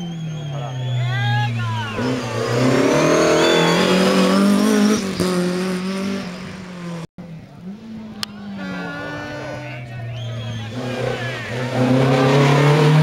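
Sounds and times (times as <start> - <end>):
rally car engine at high revs: 1.6 - 13.0.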